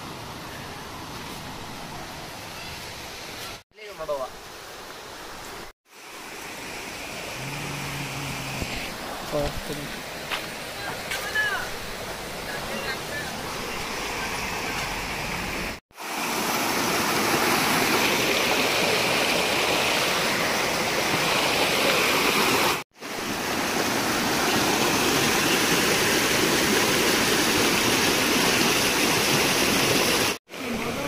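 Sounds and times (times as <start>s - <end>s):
stream rushing over stones: 0.1s - 31.0s.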